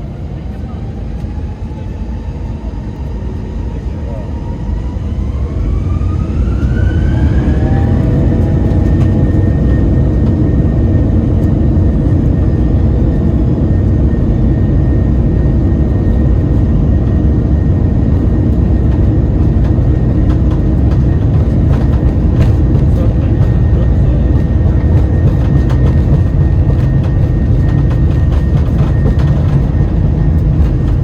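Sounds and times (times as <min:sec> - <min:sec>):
jet engine whine: 0:00.0 - 0:31.0
low rumble of takeoff roll: 0:00.0 - 0:31.0.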